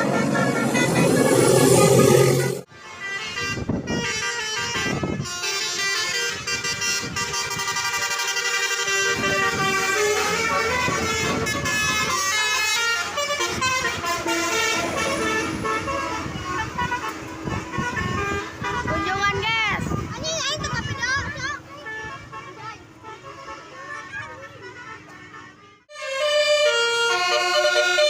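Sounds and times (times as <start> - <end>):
multi-tone bus horn tune: 0.0 - 20.2, 21.7 - 28.0
buses on the road: 0.0 - 28.0.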